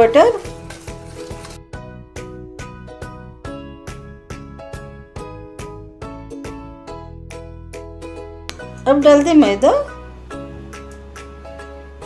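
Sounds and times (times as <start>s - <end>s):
light background music: 0.0s - 12.0s.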